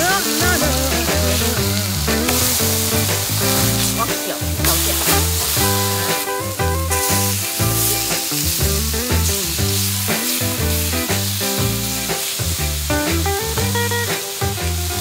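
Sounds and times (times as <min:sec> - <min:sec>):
background music with bass line: 0:00.0 - 0:15.0
meat sizzling on a griddle: 0:00.0 - 0:15.0.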